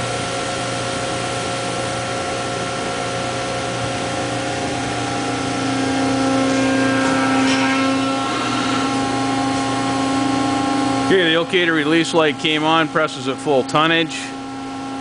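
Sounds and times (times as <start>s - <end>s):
hydraulic machine whine: 0.0s - 15.0s
machine hum: 0.0s - 15.0s.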